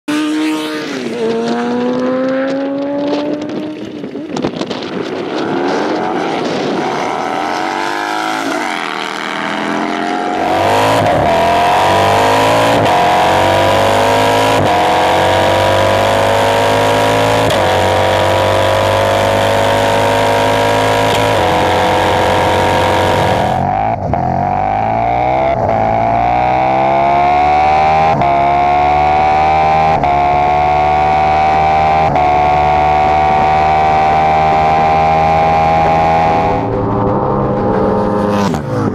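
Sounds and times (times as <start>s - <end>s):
motorcycle engines revving: 0.1s - 38.9s
rush of wind: 0.5s - 24.5s, 31.5s - 38.9s.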